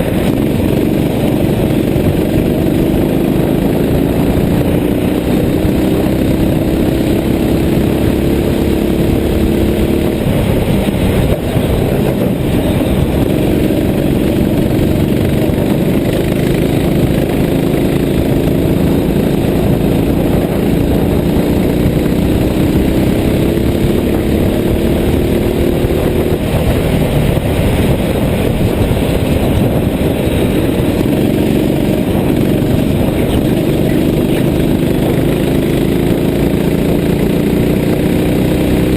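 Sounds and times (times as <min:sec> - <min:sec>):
go-kart engine running: 0:00.0 - 0:38.9
steady rushing noise: 0:00.0 - 0:38.9.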